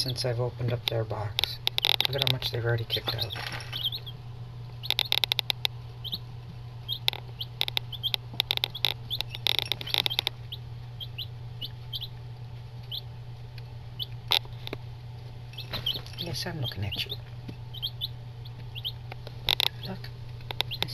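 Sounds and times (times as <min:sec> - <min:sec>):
chicks peeping: 0:00.0 - 0:20.9
chicks scratching at feed: 0:00.0 - 0:20.9
low hum: 0:00.0 - 0:20.9.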